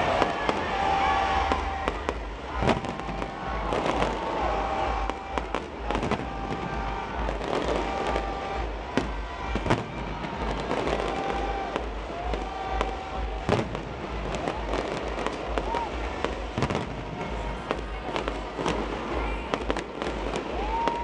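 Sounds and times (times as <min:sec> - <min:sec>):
fireworks crackling and banging: 0:00.0 - 0:21.0
fireworks whistling: 0:00.0 - 0:21.0.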